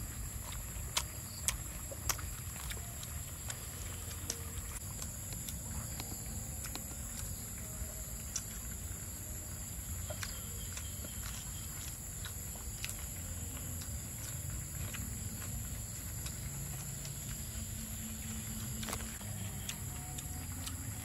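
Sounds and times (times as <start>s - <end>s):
crunching fried chicken: 0.0s - 21.0s
evening insects chorus: 0.0s - 21.0s
low background rumble: 0.0s - 21.0s.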